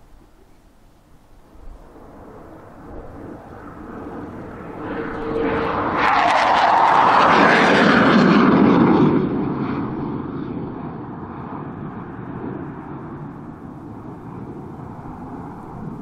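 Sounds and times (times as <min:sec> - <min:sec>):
military jet passing: 0:01.4 - 0:16.0.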